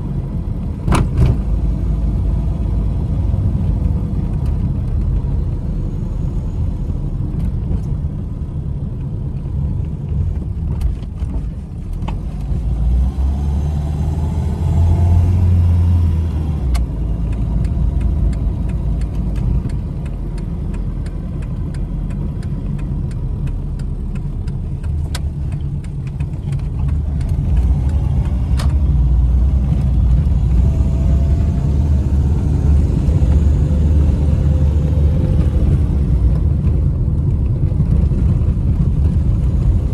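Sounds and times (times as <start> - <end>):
car engine and road noise: 0.0 - 39.9
faint engine whine: 0.0 - 39.9.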